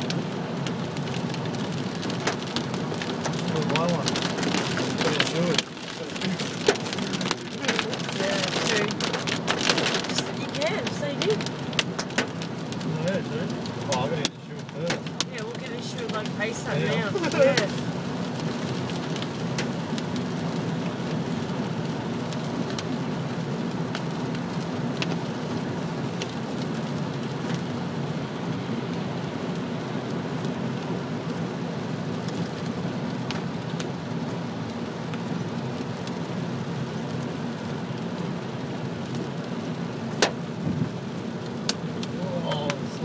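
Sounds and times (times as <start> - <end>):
rain pelting car: 0.0 - 43.0
road noise: 0.0 - 43.0
hailstones ticking on car: 0.1 - 43.0.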